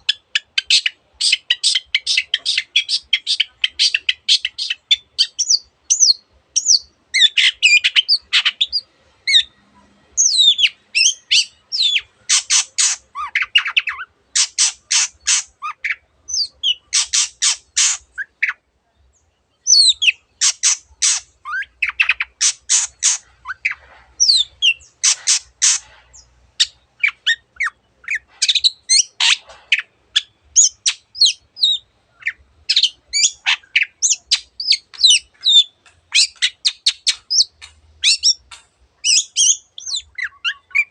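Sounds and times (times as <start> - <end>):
shrike singing varied song: 0.0 - 40.9.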